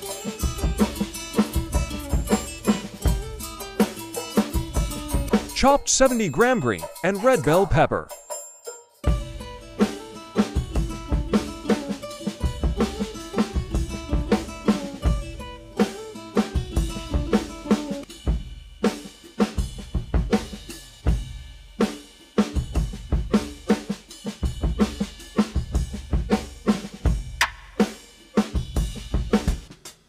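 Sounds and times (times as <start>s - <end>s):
music with steady drum beat: 0.0s - 30.0s.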